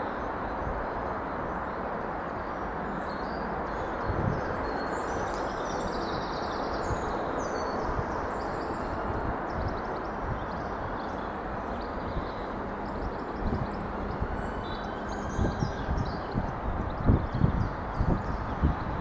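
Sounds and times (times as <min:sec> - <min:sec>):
small birds chirping: 0:02.4 - 0:19.0.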